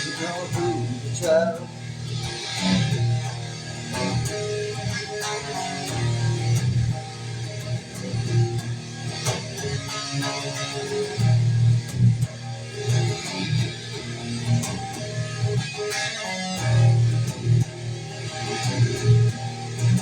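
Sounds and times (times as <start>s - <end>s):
guitar strumming and picking: 0.0s - 20.0s.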